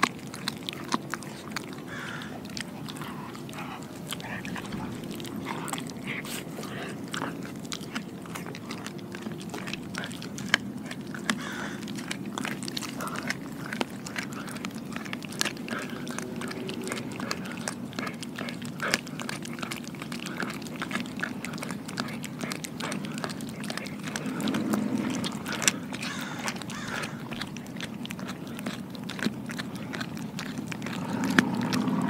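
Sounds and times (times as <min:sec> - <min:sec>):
dog chewing and crunching: 0:00.0 - 0:32.0.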